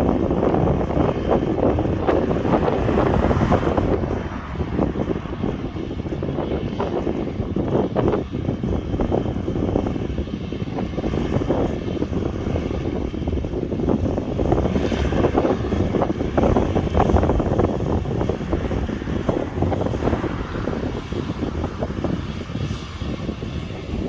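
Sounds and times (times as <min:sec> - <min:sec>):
airliner jet engines running: 0:00.0 - 0:24.0.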